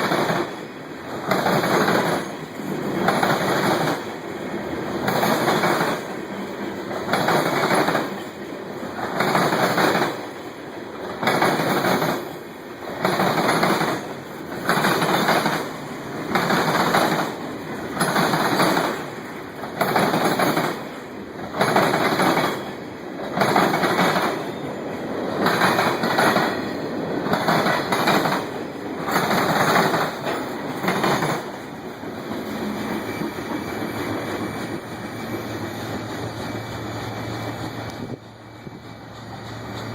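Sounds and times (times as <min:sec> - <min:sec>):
low train noise: 0:00.0 - 0:39.9.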